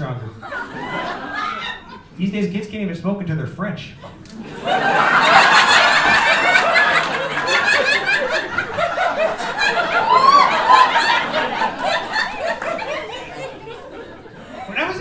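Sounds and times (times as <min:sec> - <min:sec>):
audience laughing loudly: 0:00.0 - 0:02.2, 0:04.0 - 0:15.0.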